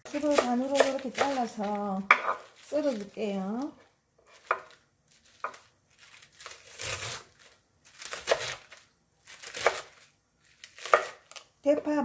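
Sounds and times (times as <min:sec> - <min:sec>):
knife slicing cabbage leaves: 0:00.1 - 0:11.9.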